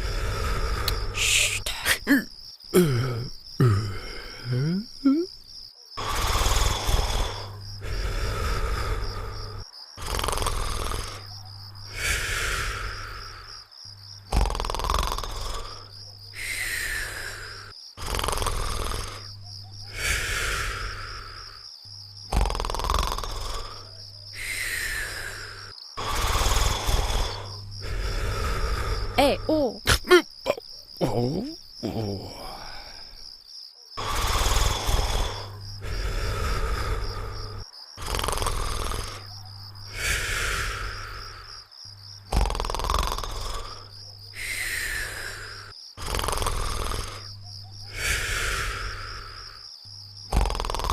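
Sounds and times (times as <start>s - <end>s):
cartoon snoring: 0.0s - 5.3s, 6.0s - 13.6s, 14.2s - 21.6s, 22.2s - 33.2s, 34.0s - 41.6s, 42.2s - 50.9s
crickets chirping: 0.0s - 50.9s.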